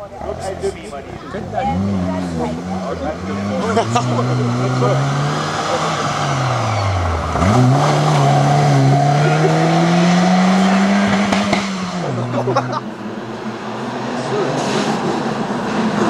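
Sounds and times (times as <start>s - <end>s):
exhaust cracks: 0.0s - 16.0s
rally car engine revving: 0.0s - 16.0s.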